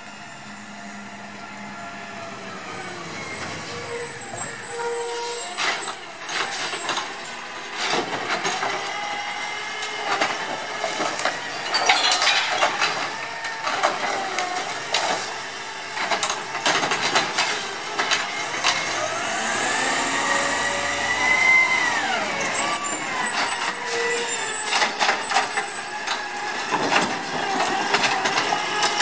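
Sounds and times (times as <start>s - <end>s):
garbage truck engine running: 0.0s - 29.0s
cart and arm clanking: 2.5s - 29.0s.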